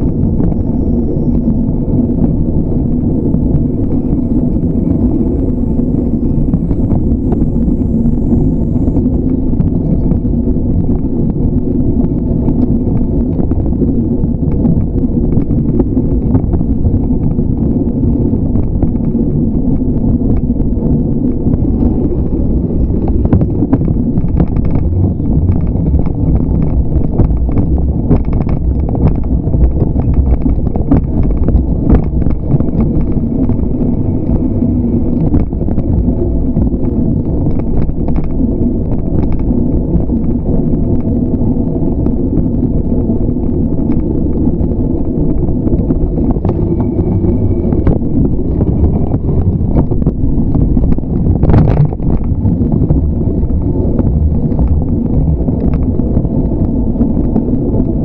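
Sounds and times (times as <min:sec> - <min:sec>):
bicycle road rumble: 0:00.0 - 0:58.0
wind buffeting microphone: 0:00.0 - 0:58.0
small clicks and rattles: 0:03.8 - 0:58.0.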